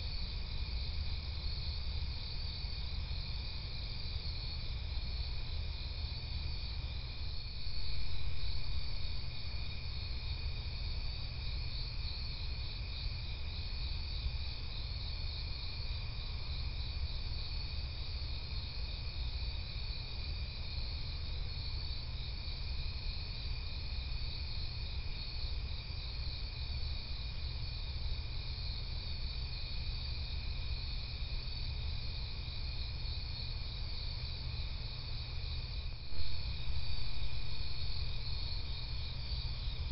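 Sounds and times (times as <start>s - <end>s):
crickets trilling: 0.0s - 39.9s
insects pulsing chirr: 0.0s - 39.9s.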